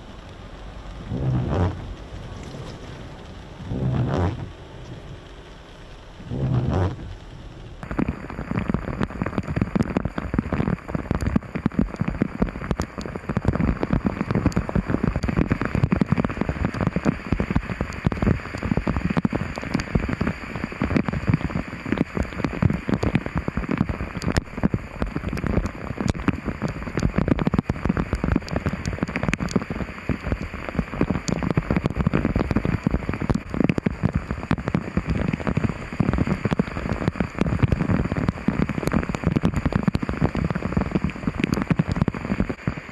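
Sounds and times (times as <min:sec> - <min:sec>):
heavy rain on hard surface: 0:00.0 - 0:42.9.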